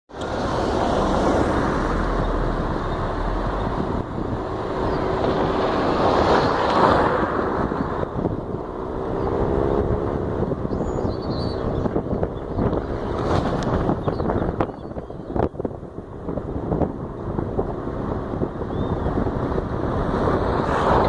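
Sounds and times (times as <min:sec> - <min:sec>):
motor vehicle passing: 0:00.1 - 0:14.6, 0:16.4 - 0:21.0.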